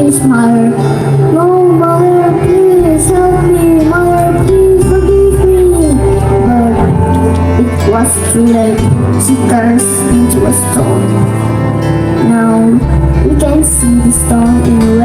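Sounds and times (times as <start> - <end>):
music with heavy bass: 0.0 - 15.0
person singing: 0.0 - 15.0.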